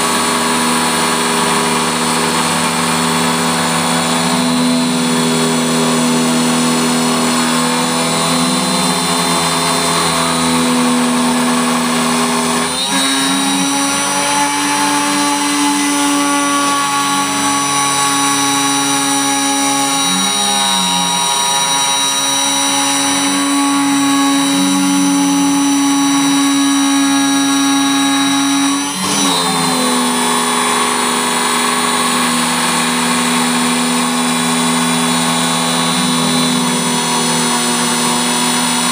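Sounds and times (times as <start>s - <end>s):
router spindle motor whine: 0.0s - 38.9s.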